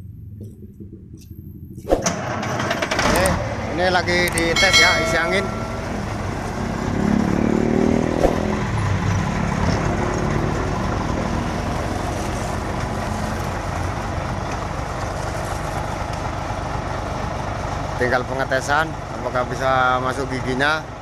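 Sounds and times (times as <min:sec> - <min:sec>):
diesel truck engine idling: 0:03.0 - 0:07.9, 0:08.5 - 0:21.0.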